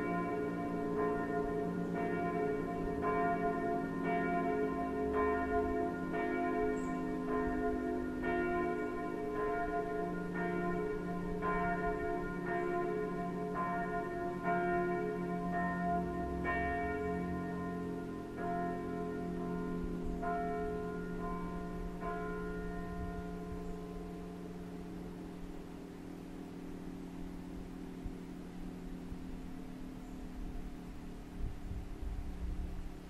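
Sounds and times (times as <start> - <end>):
bells ringing in a peal: 0.0 - 33.0.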